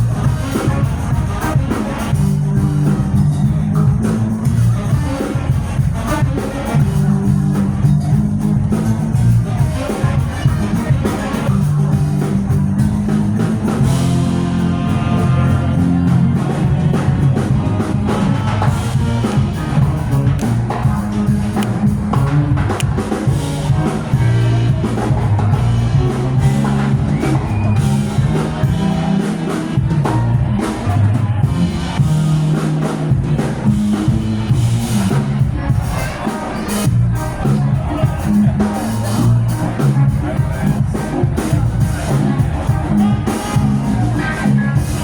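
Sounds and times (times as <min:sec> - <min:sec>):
drum kit beat: 0:00.0 - 0:45.0
live rock band: 0:00.0 - 0:45.0.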